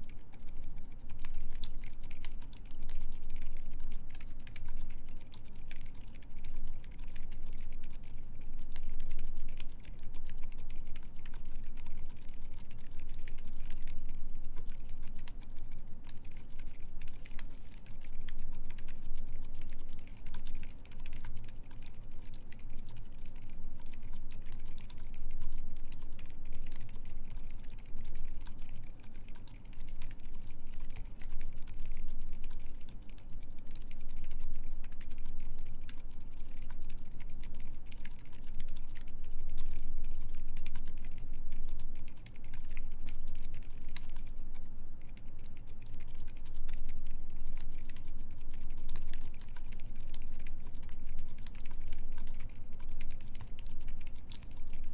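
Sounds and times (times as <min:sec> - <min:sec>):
fast typing on mechanical keyboard: 0:00.0 - 0:44.3, 0:45.1 - 0:54.9.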